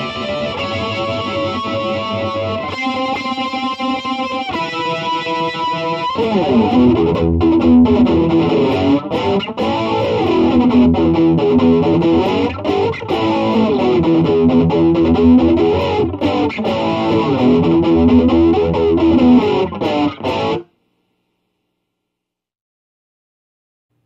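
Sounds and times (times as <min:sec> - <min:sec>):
flanged electric guitar chords: 0:00.0 - 0:20.6.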